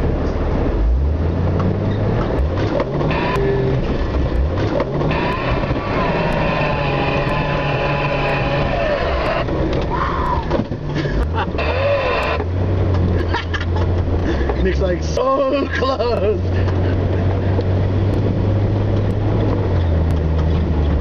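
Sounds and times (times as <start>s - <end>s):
smooth engine whine: 0.0s - 21.0s
vehicle engine in snow: 0.0s - 21.0s.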